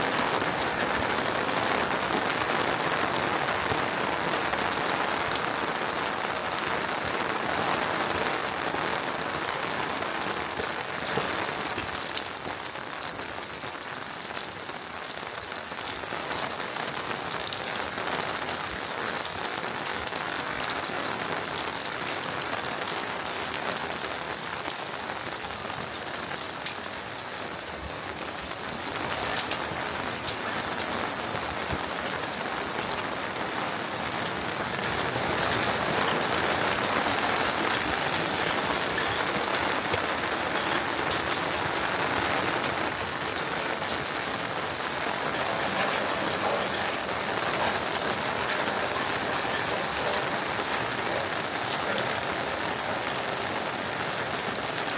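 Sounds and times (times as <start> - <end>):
rain with drops ticking: 0.0 - 54.9.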